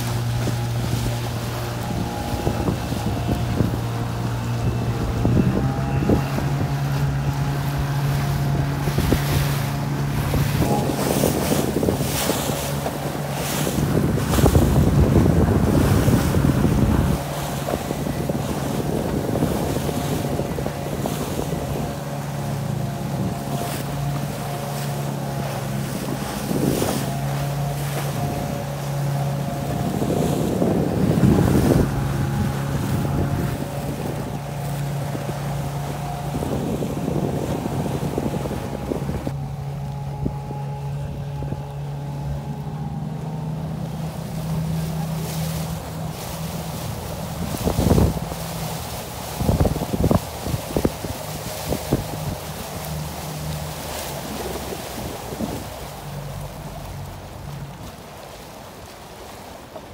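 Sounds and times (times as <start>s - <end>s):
motorboat engine running: 0.0s - 59.9s
sea water splashing: 0.0s - 59.9s
wind buffeting microphone: 0.0s - 59.9s.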